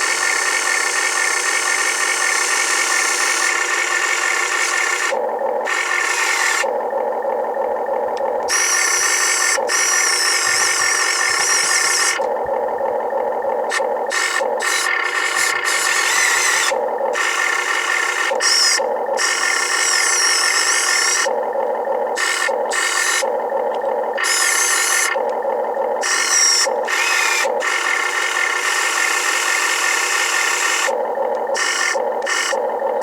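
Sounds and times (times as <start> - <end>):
electric motors and gears whirring: 0.0 - 33.0.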